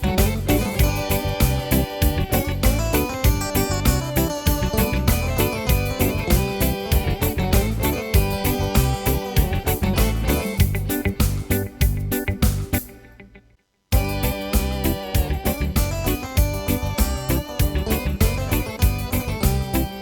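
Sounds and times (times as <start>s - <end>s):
keyboard accompaniment with drum beat: 0.0s - 13.2s, 13.9s - 20.0s.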